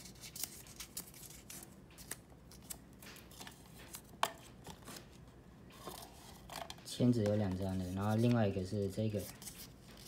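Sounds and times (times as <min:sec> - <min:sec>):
paper rustling: 0:00.0 - 0:05.2, 0:05.8 - 0:10.0.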